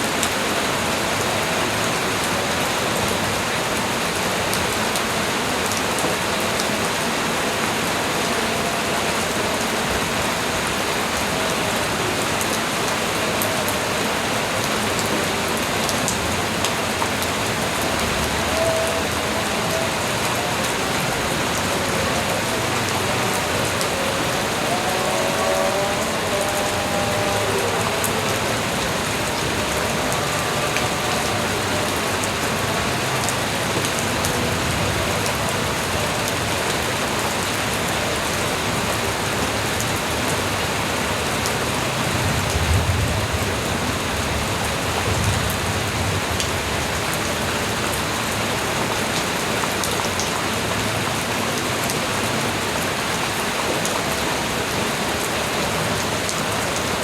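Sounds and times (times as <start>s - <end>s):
light rain falling: 0.0s - 57.0s.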